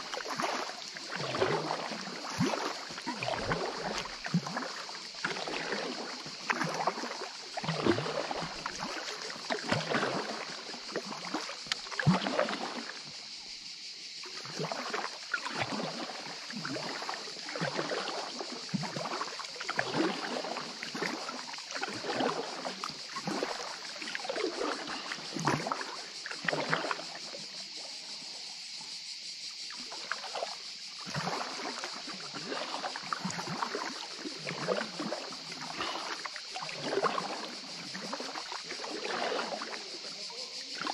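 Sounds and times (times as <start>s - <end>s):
kayak paddle splashing water: 0.0s - 40.9s.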